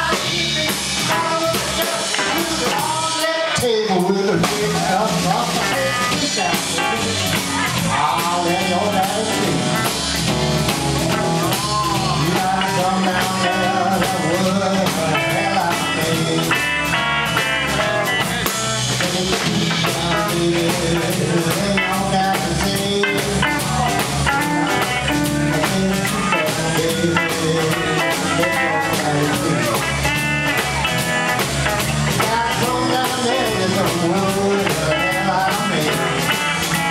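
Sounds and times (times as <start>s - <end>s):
bass: 0.0s - 36.9s
drum kit: 0.0s - 36.9s
electric guitar blues lines: 0.0s - 36.9s.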